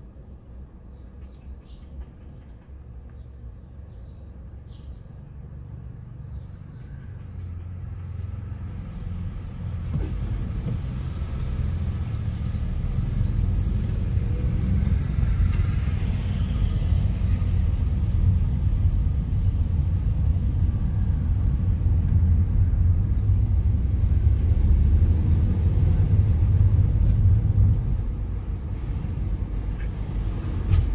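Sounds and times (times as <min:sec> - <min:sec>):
car engine and tyres rumbling: 0:00.0 - 0:30.9.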